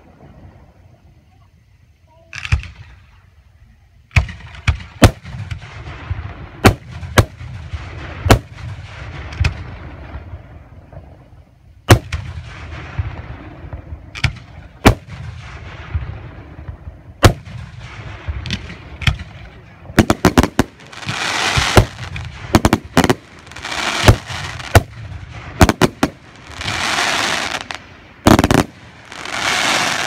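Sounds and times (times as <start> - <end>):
fireworks crackle and rumble: 0.0 - 30.0
fireworks bangs: 4.1 - 11.2, 11.9 - 30.0.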